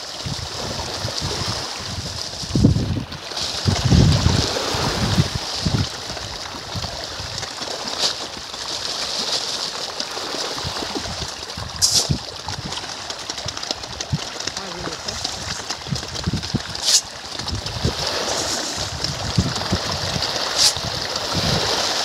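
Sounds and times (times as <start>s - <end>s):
fish splashing at surface: 3.1s - 22.0s.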